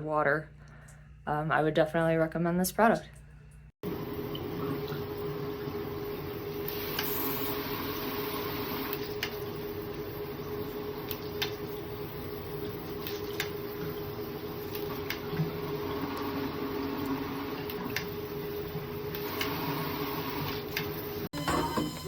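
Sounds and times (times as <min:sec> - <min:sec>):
mechanical hum with held tone: 0:00.0 - 0:22.0.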